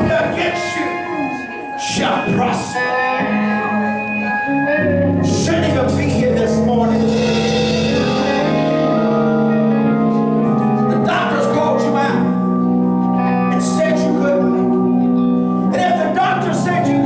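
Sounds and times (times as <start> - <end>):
guitar: 0.0 - 17.0
organ chords: 0.0 - 17.0.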